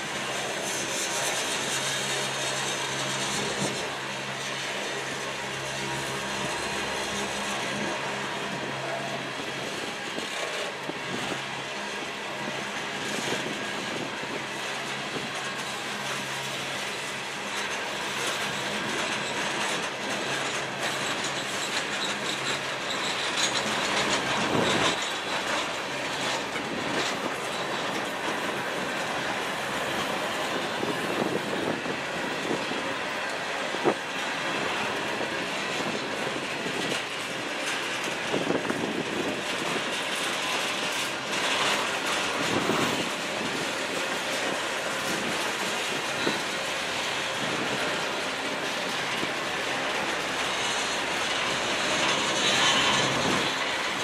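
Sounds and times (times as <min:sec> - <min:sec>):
train wheels rumbling on rail: 0:00.0 - 0:54.0
wheels clacking over rail joints: 0:00.0 - 0:54.0.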